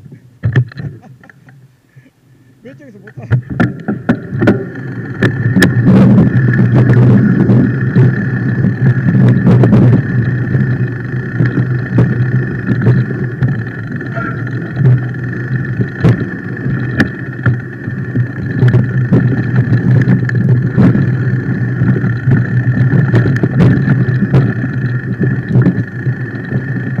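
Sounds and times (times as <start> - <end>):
bike tyre and frame rumble: 0.0 - 27.0
wind: 0.0 - 27.0
bike knocks and rattles: 0.4 - 1.6, 3.0 - 27.0.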